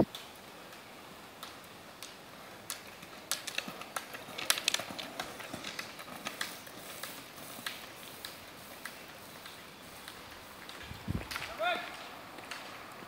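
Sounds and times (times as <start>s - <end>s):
ski pole tips clicking on asphalt: 0.1s - 13.0s.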